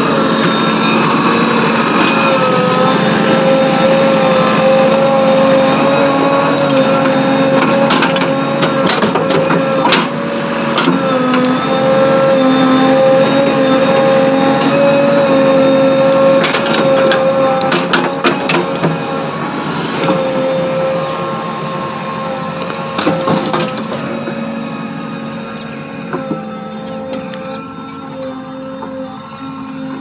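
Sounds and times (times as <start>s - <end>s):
small motor whining: 0.0s - 30.0s.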